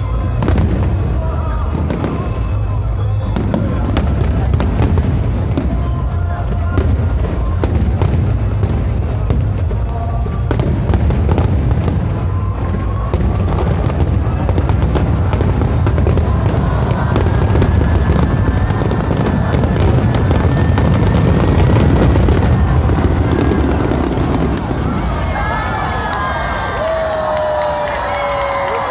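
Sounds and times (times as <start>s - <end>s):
heavy low rumble: 0.0s - 26.1s
fireworks cracks and booms: 0.0s - 28.9s.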